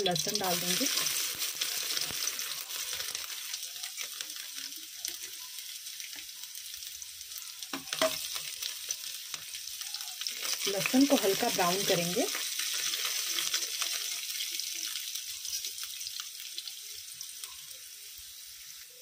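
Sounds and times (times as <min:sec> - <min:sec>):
garlic sizzling in hot oil: 0:00.0 - 0:19.0.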